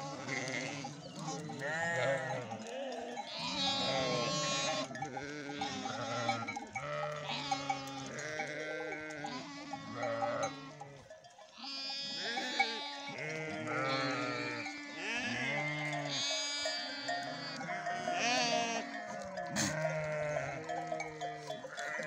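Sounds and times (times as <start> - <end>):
sheep and lambs bleating: 0.0 - 22.0.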